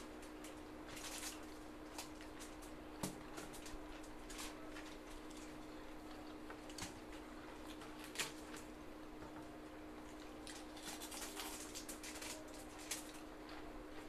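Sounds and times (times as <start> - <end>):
people chewing with wet smacks: 0.0 - 9.4, 10.0 - 14.0
faint steady hum: 0.0 - 14.0.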